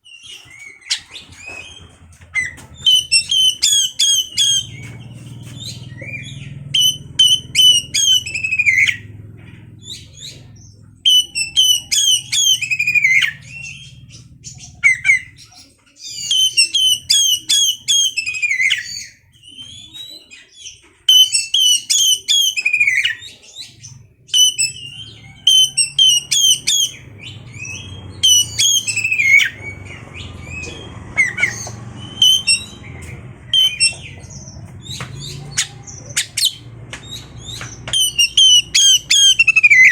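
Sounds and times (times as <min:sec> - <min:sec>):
bird singing chips and whistles: 0:00.0 - 0:09.1, 0:09.8 - 0:14.0, 0:14.8 - 0:39.9.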